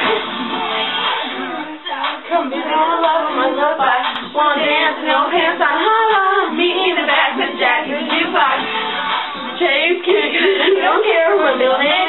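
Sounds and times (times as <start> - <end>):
girls singing: 0.0 - 12.0.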